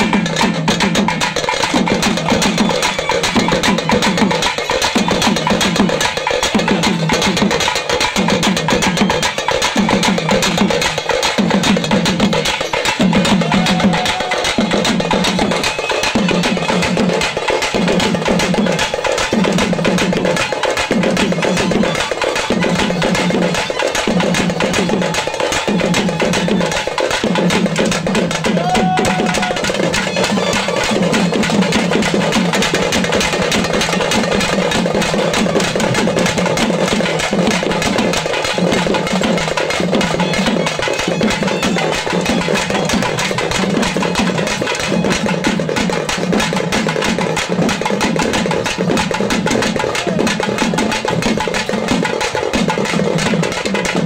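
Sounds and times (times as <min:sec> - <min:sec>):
fast stick drumming: 0:00.0 - 0:54.0.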